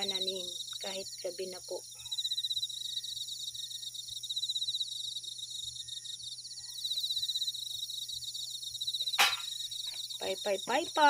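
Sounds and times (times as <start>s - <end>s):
crickets chirping: 0.0s - 11.0s
higher insects trilling: 0.0s - 11.0s.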